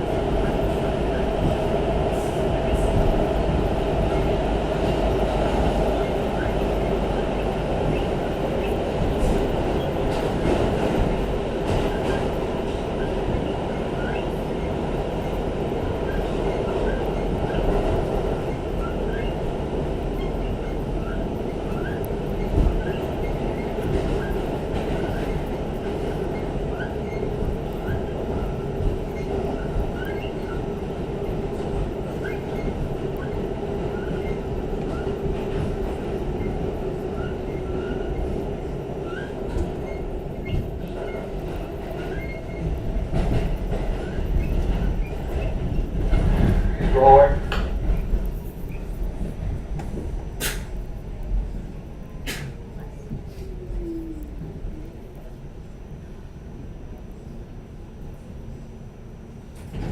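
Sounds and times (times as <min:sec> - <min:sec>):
subway wheels rumbling on rail: 0:00.0 - 0:59.9.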